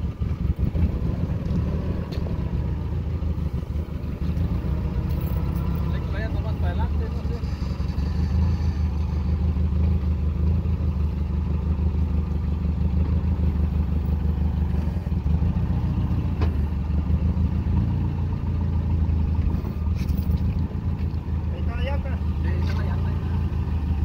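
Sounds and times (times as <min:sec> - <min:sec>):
forklift engine droning: 0:00.0 - 0:24.0.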